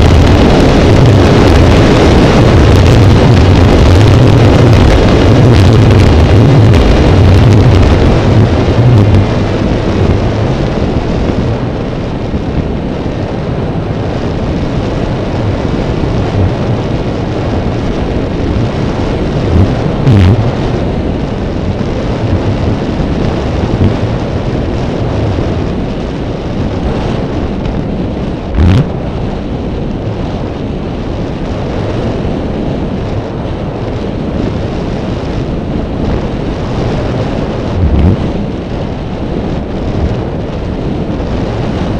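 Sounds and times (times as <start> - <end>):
airflow rushing over microphone: 0.0 - 41.9
heavier wind buffets: 0.0 - 41.9.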